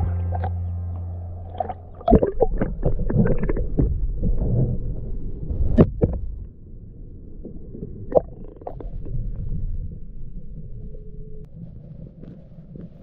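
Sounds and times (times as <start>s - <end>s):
sea water sloshing and gurgling: 1.4s - 13.0s.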